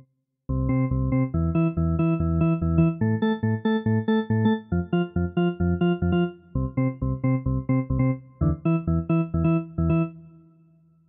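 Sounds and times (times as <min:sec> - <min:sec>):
synthesizer organ chord stabs: 0:00.6 - 0:10.3.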